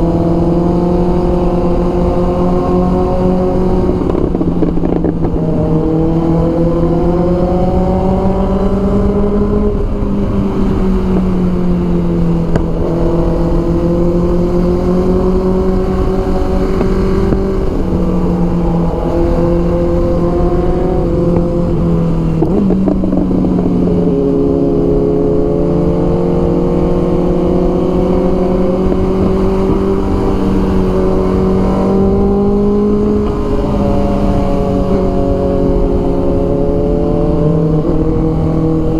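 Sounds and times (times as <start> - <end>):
low wind rumble: 0.0 - 38.9
motorcycle engine running: 0.0 - 38.9.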